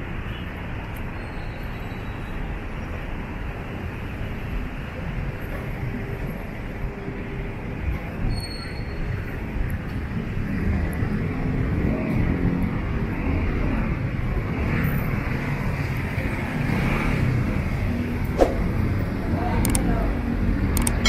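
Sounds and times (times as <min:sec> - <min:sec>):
traffic passing: 0:00.0 - 0:21.0.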